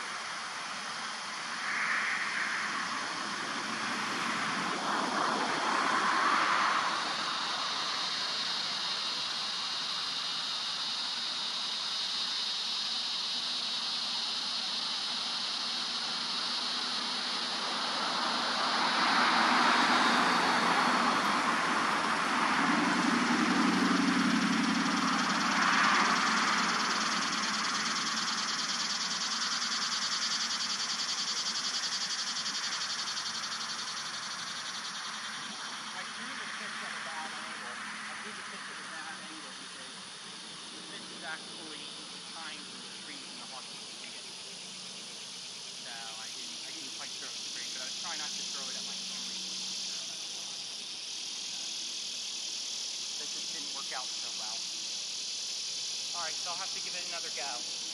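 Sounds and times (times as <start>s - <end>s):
loud noise: 0.0s - 52.0s, 53.0s - 57.9s
insects buzzing shrilly: 0.0s - 57.9s
steady outdoor hiss: 0.0s - 57.9s.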